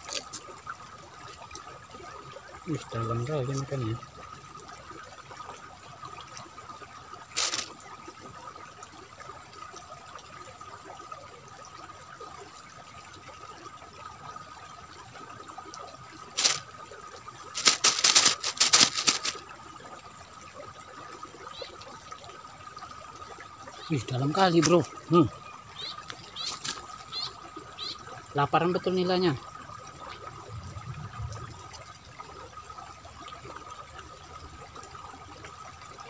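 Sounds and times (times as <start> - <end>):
river water trickling: 0.0 - 36.0.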